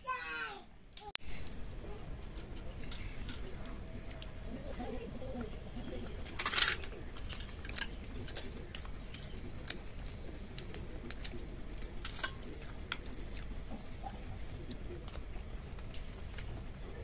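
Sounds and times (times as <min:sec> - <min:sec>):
soft chewing: 0:00.8 - 0:17.0.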